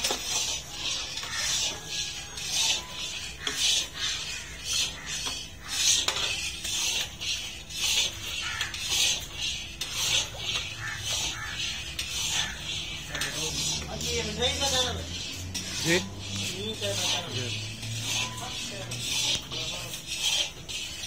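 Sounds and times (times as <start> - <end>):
metal rod stirring liquid in pot: 0.0 - 21.0.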